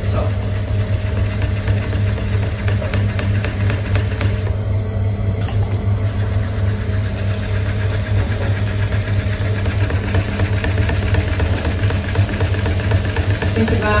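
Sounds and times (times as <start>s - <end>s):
potter's wheel motor humming: 0.0s - 14.0s.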